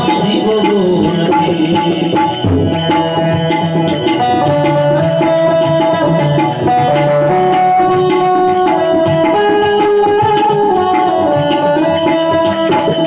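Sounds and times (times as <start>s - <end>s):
banjo melody: 0.0s - 13.0s
tabla rhythm: 0.0s - 13.0s.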